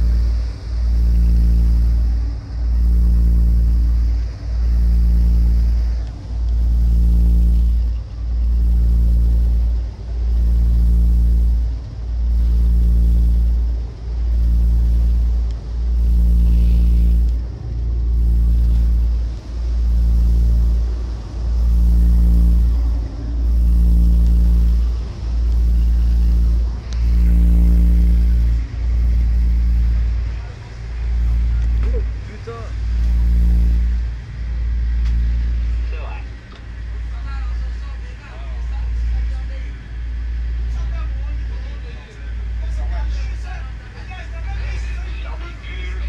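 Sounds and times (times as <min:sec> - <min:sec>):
deep marine engine drone: 0:00.0 - 0:46.0.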